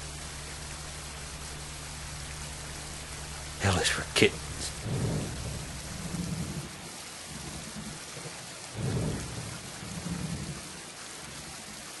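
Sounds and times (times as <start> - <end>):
low rolling thunder: 0.0 - 10.8
rain hissing: 0.0 - 12.0.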